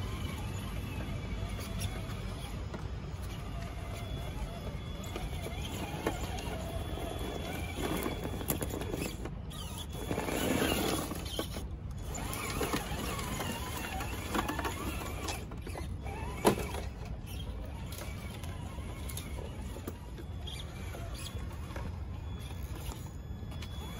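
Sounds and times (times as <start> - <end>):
electric motor whirring and squealing: 0.0 - 23.9.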